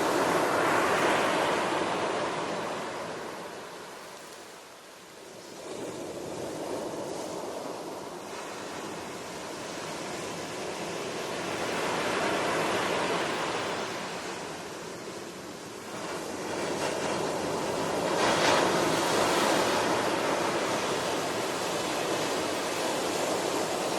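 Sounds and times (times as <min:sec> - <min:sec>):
ocean waves washing: 0:00.0 - 0:23.9.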